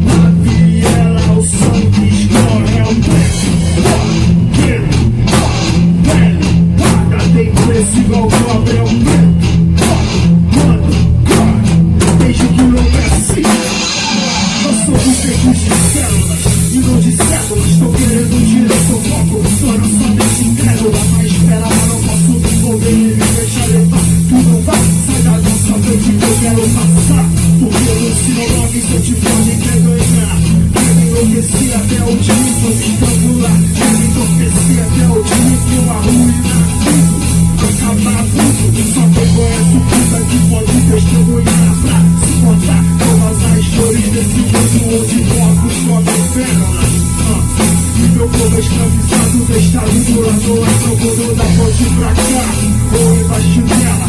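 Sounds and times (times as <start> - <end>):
band playing instrumental groove: 0.0 - 54.0.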